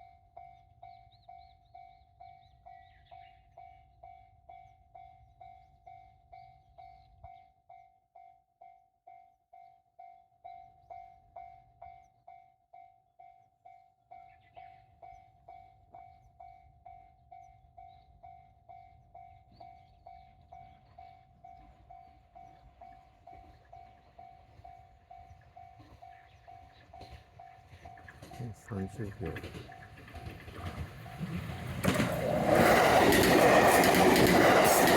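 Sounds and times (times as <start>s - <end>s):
level-crossing warning bell: 0.0s - 34.9s.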